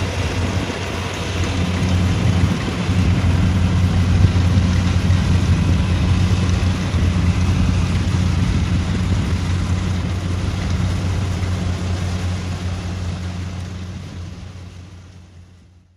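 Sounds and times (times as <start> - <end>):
rush of threshing machinery: 0.0 - 15.4
combine harvester engine drone: 0.0 - 15.9.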